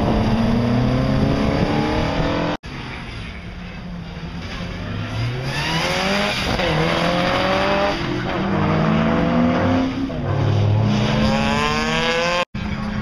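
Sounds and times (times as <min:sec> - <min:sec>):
rally car engine accelerating: 0:00.0 - 0:02.6, 0:04.4 - 0:12.4.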